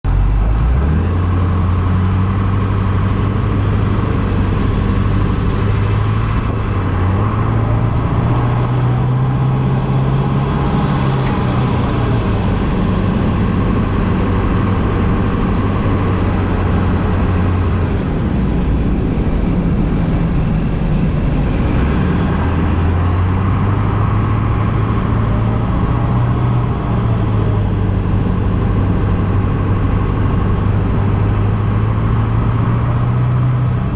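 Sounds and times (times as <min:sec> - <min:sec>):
diesel engine revving: 0:00.0 - 0:33.9
turbocharger whistling: 0:00.9 - 0:19.5, 0:21.4 - 0:33.9.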